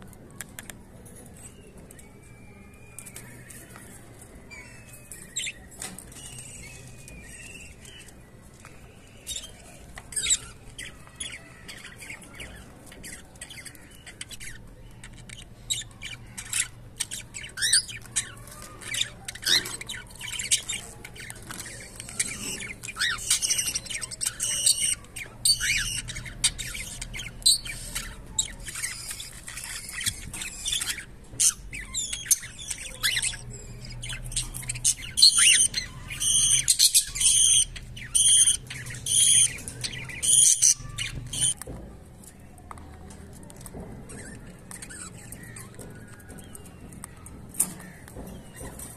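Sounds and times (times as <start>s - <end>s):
cockatiels chirping and calling: 0.4s - 41.6s, 42.2s - 48.9s.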